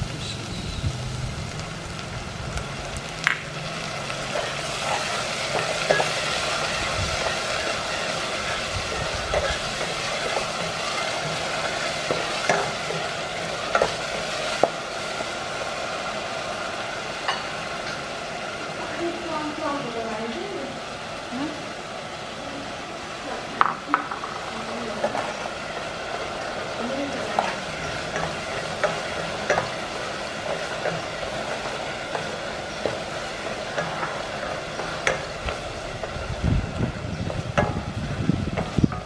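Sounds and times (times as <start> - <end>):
paste sizzling in oil: 0.0 - 39.0.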